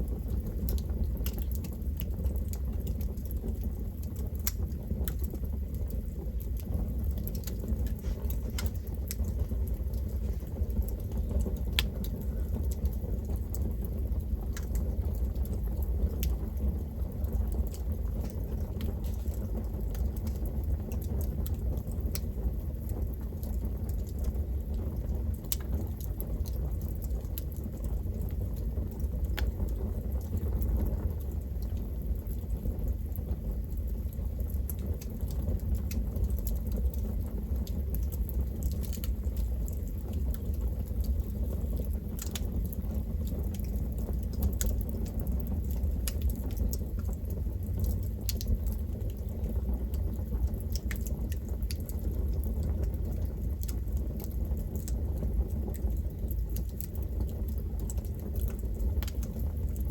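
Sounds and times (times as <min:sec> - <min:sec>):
low rumble of flames: 0:00.0 - 0:59.9
wood crackling and popping: 0:00.0 - 0:59.9.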